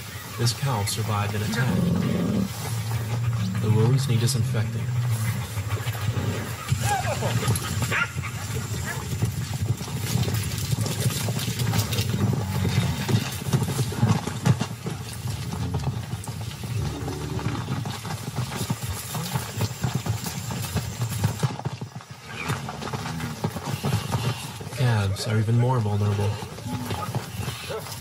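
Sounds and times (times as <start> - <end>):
hoofbeats on dry ground: 0.0 - 28.0.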